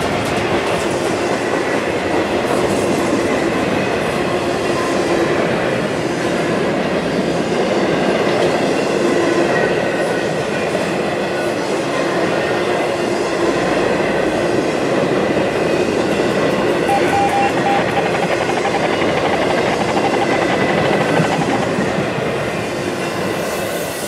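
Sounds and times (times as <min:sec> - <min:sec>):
freight train wheels on rails: 0:00.0 - 0:24.0.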